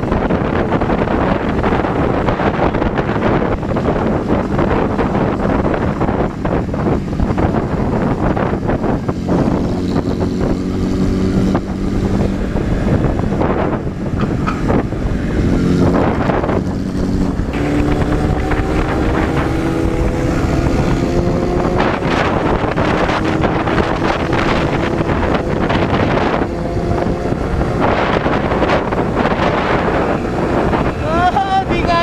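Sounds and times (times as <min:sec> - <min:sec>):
motorcycle engine accelerating: 0:00.0 - 0:32.0
wind buffeting microphone: 0:00.0 - 0:32.0.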